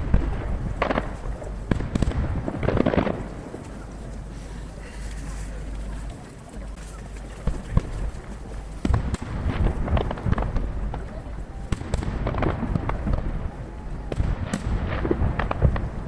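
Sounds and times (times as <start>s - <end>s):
distant firework bangs and crackles: 0.0s - 16.0s.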